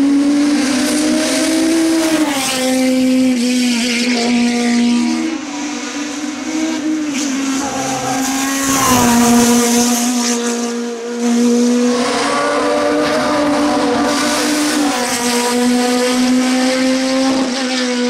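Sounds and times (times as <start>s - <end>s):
racing car engine at high revs: 0.0s - 18.0s.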